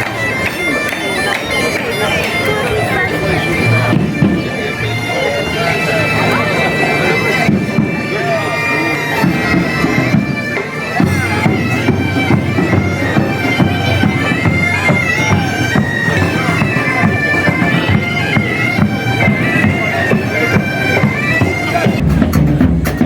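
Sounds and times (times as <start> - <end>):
bagpipe melody over drone: 0.0 - 22.0.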